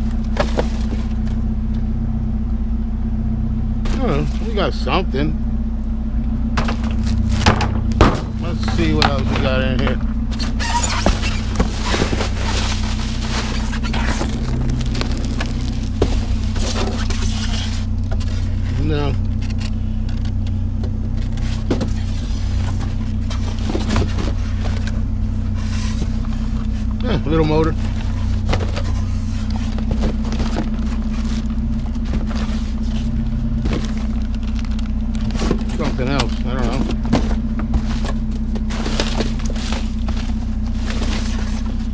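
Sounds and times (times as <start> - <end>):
junk clattering and scraping: 0.0 - 2.0, 3.7 - 41.9
low mechanical hum: 0.0 - 41.9
vehicle engine running: 0.0 - 41.9.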